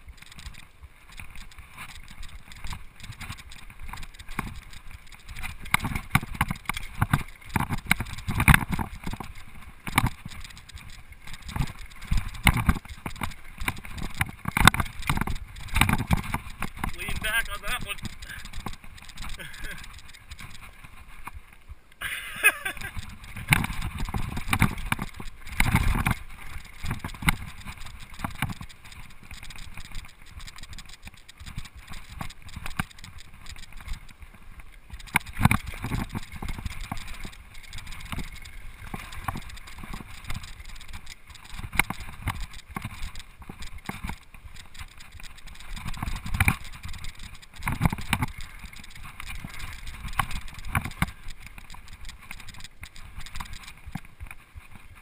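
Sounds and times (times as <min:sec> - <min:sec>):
mountain bike rattling on trail: 0:00.0 - 0:55.0.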